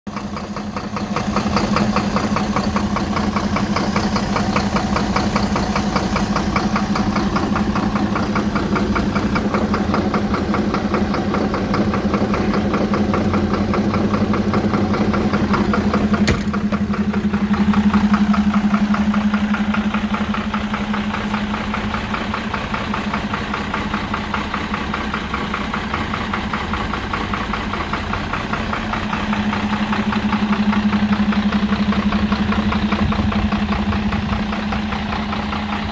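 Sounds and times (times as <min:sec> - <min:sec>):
diesel truck engine idling: 0:00.1 - 0:35.9.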